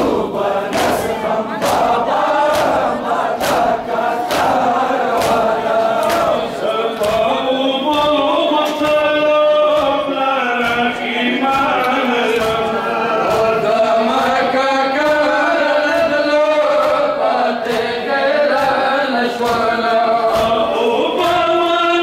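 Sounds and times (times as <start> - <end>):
crowd of men chanting: 0.0 - 22.0
hands slapping bare chests: 0.6 - 13.6, 16.8 - 21.4.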